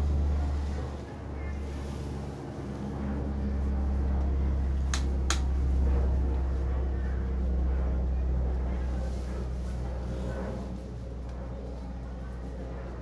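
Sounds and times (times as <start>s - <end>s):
low rumble with faint hum: 0.0s - 13.0s.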